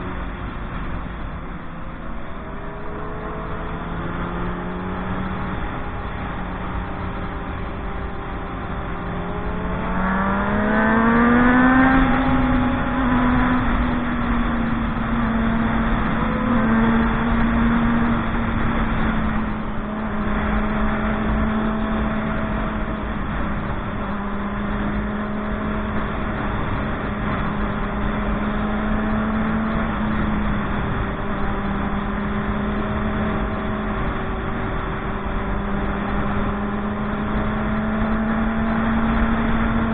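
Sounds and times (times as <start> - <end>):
motorcycle engine accelerating: 0.0 - 39.9
wind noise rumble: 0.0 - 39.9.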